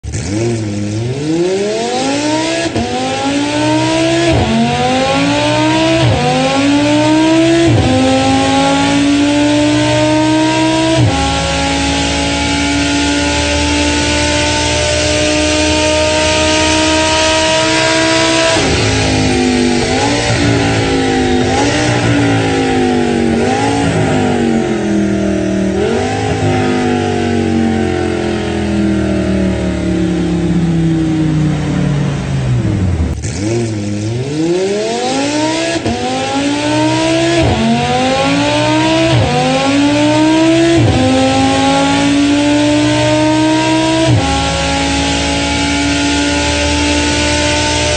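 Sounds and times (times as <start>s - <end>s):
engine throttle blips: 0.0s - 47.9s
racing car engine at full throttle: 0.0s - 47.9s.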